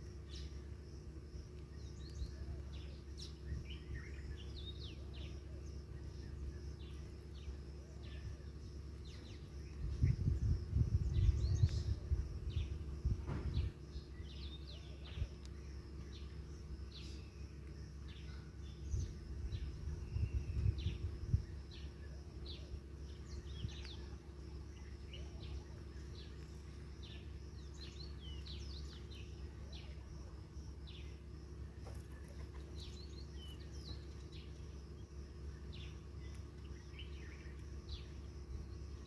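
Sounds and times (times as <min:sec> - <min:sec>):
birds chirping: 0:00.0 - 0:39.0
steady low rumble: 0:00.0 - 0:39.0.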